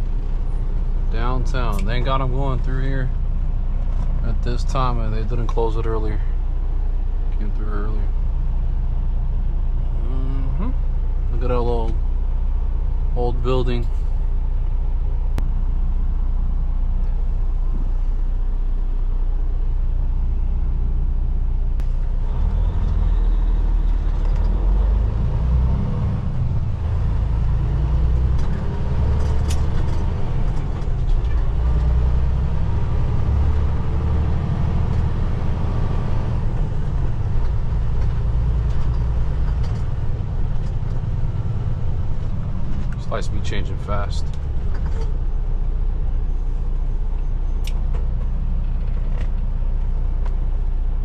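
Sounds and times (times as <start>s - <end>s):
truck diesel engine accelerating: 0.0s - 51.0s.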